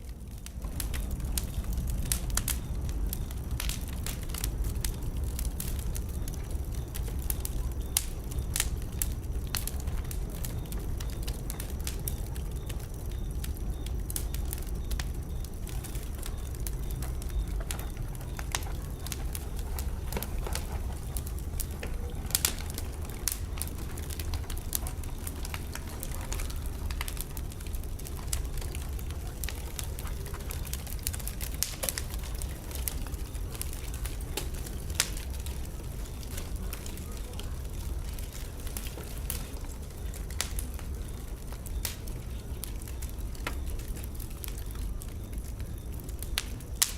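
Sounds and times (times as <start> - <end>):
fire crackling and popping: 0.0 - 46.9
fire flames rumbling: 0.0 - 46.9.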